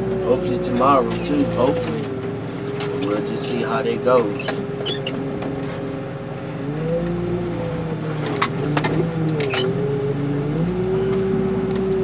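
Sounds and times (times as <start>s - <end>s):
hydraulic car crusher hum: 0.0s - 12.0s.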